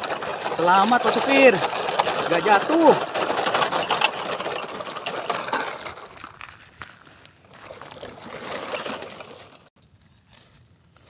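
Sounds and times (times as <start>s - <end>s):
toy trucks scraping over gravel: 0.0s - 9.7s.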